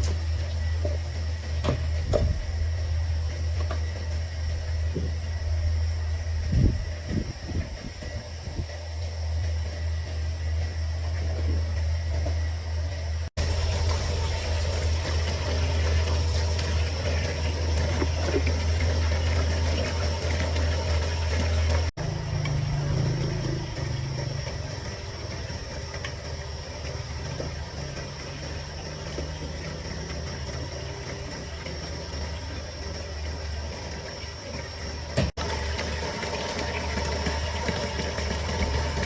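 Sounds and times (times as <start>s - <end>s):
motor humming: 0.0s - 39.0s.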